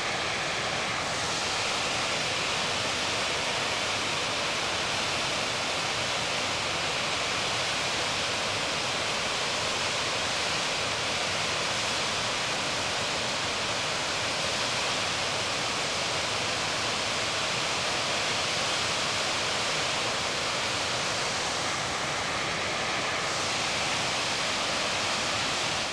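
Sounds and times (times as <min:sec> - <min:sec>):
water rushing over dam spillway: 0:00.0 - 0:25.9.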